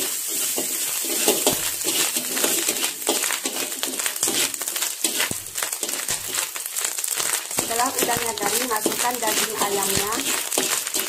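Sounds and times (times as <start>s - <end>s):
metal spatula scraping a wok: 0.0s - 11.0s
shrimp sizzling in hot oil: 0.0s - 11.0s.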